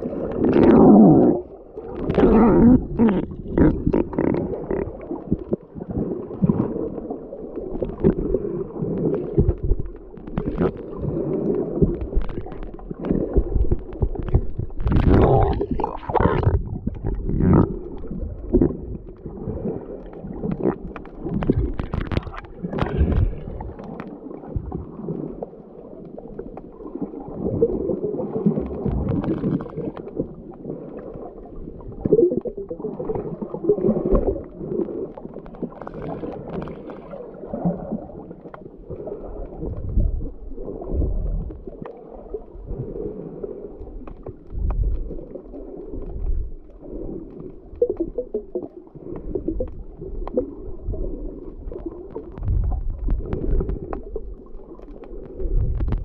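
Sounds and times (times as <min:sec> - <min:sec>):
muffled water sloshing and gurgling: 0:00.0 - 0:56.0.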